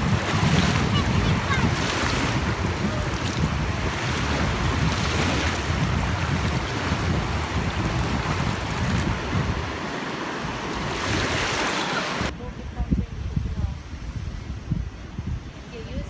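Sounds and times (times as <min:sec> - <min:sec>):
shallow surf washing: 0:00.0 - 0:16.0
wind buffeting microphone: 0:00.0 - 0:16.0.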